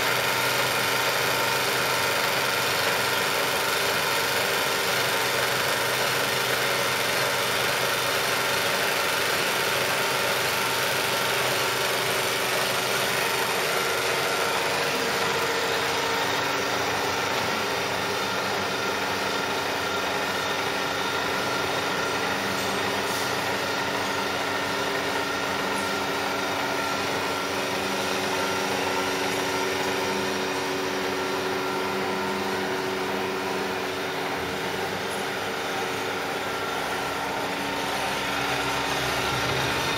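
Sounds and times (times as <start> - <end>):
milling machine humming: 0.0 - 39.9.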